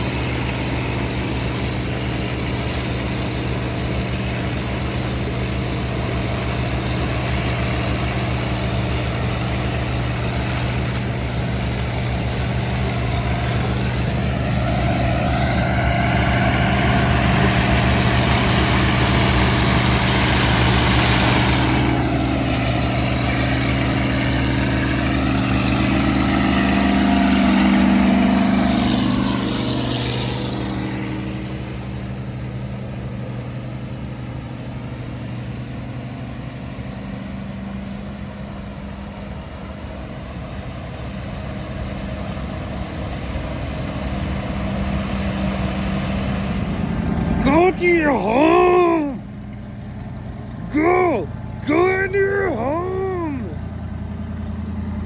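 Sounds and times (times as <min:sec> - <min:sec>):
farm machinery engine running: 0:00.0 - 0:55.0.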